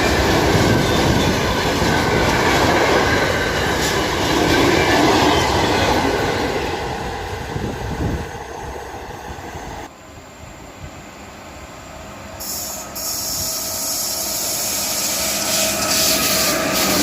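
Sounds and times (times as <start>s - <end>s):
train rolling on rails: 0.0s - 17.0s.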